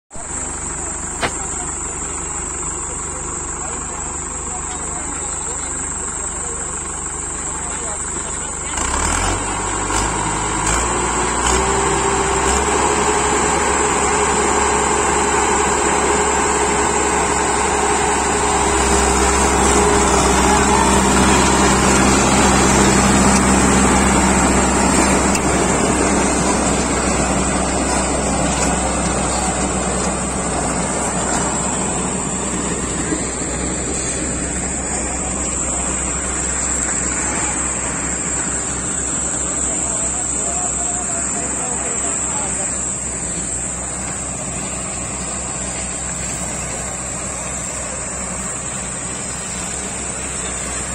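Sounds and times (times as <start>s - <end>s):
tractor diesel engine under load: 0.1s - 50.9s.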